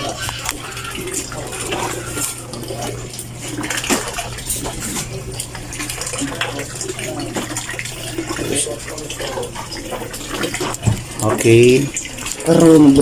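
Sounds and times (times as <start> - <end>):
water sloshing in washing machine: 0.0 - 13.0.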